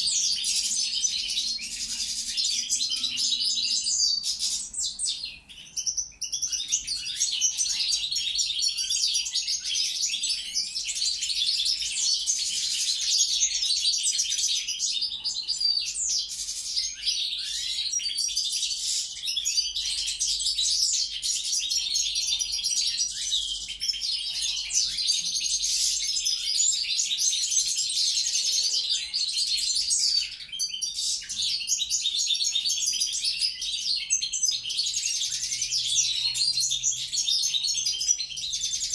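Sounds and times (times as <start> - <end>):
goldfinch singing: 0.0 - 38.9.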